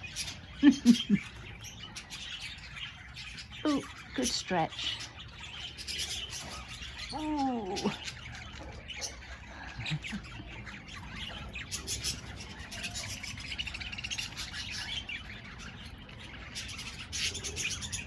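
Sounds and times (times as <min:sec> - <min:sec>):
budgerigars chattering: 0:00.0 - 0:18.0.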